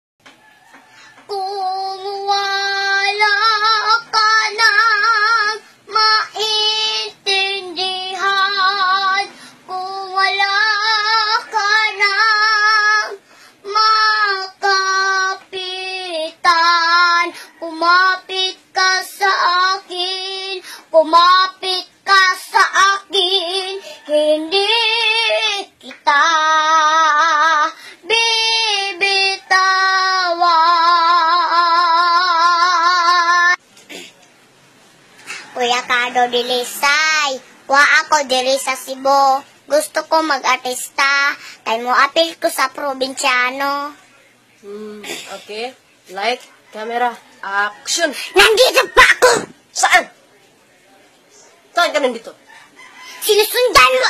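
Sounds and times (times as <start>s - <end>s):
girl singing unaccompanied: 0.7s - 34.0s, 35.4s - 46.2s, 53.2s - 54.0s.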